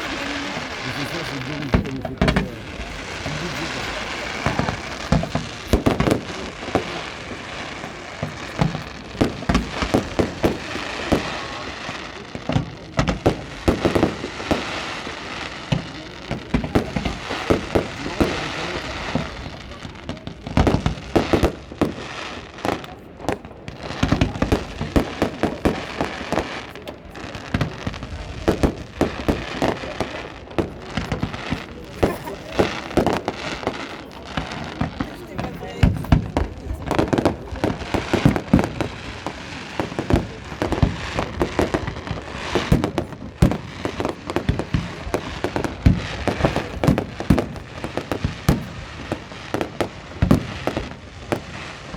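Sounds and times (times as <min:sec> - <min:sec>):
fireworks bursting with sharp bangs: 0:00.0 - 0:51.9
fireworks crackling: 0:00.0 - 0:51.9.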